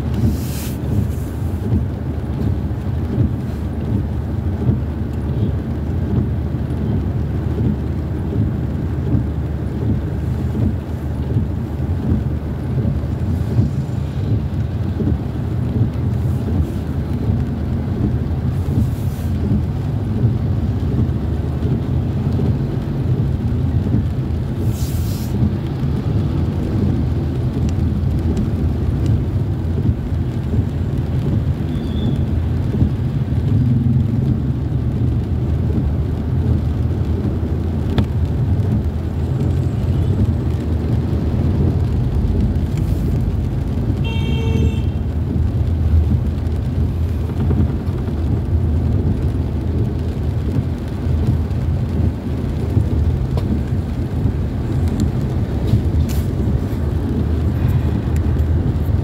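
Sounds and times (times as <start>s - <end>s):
vehicle engine and road rumble: 0.0s - 59.0s.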